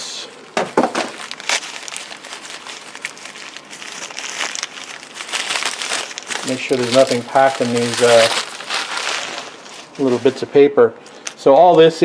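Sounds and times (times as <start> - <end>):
packing paper rustling: 0.5 - 11.9.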